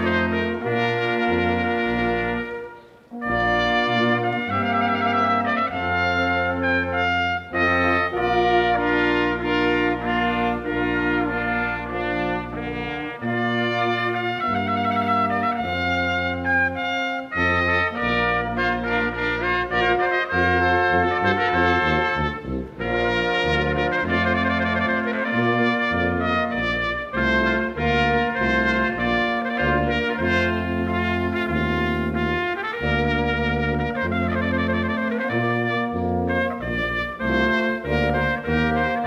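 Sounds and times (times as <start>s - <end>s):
brass ensemble music: 0.0s - 39.0s.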